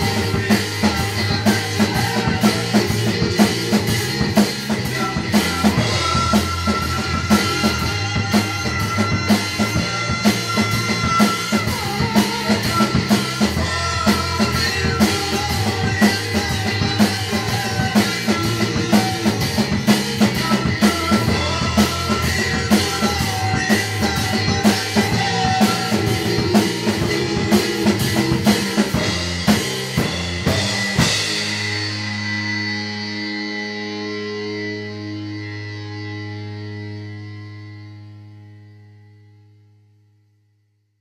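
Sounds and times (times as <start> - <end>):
drum kit playing a rock beat: 0.0 - 37.0
recorded rock song: 0.0 - 39.7.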